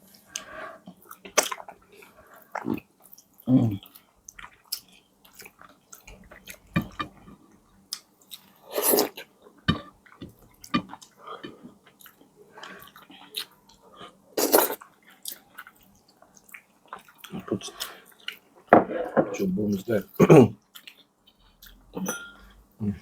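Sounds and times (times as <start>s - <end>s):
chewing and wet mouth noises: 0.1s - 18.6s, 20.6s - 22.0s.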